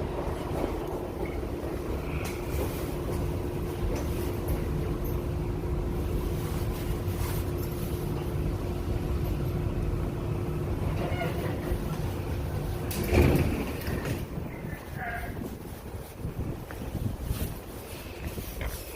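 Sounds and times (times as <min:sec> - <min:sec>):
constant hum: 0:00.0 - 0:18.9
subway train rumble: 0:00.0 - 0:18.9.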